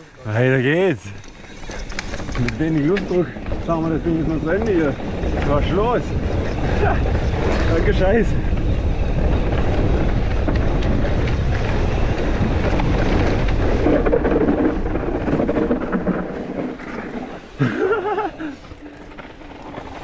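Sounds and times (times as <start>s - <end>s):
bike tyre rumble on trail: 0.0s - 20.0s
wind buffeting microphone: 0.6s - 20.0s.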